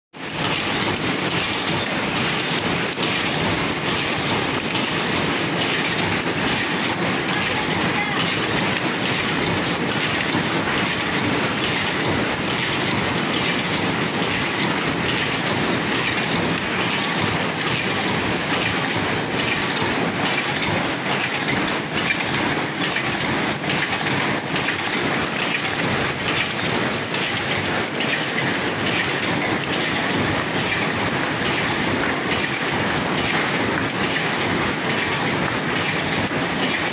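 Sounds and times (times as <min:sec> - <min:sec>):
machine clattering and clicking: 0:00.2 - 0:36.9.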